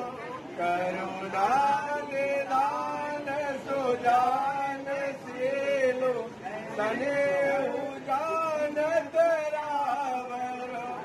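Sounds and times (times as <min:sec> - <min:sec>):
man chanting: 0:00.1 - 0:11.0.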